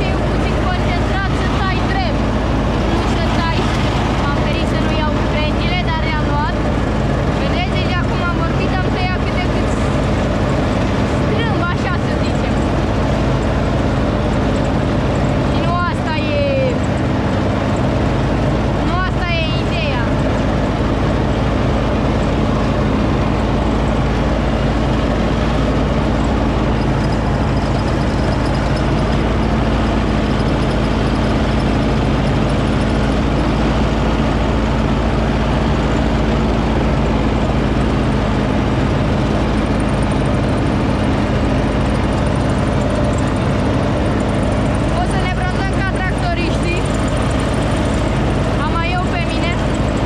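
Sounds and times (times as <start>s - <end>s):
lawn tractor engine droning: 0.0s - 50.0s.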